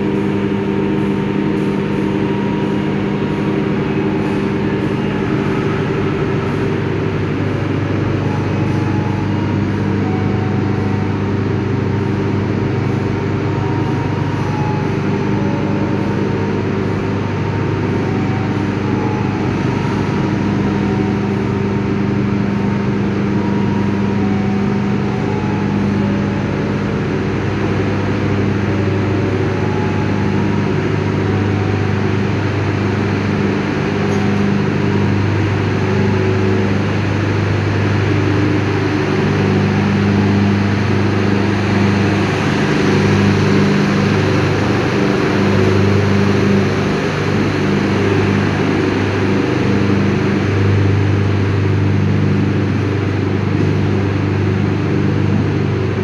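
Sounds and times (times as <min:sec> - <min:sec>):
diesel train engines idling: 0:00.0 - 0:56.0.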